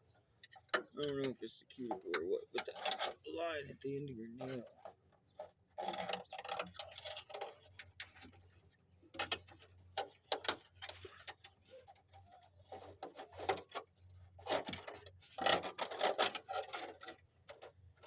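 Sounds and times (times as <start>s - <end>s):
hands handling wiring and tape: 0.0s - 3.3s, 4.4s - 18.0s.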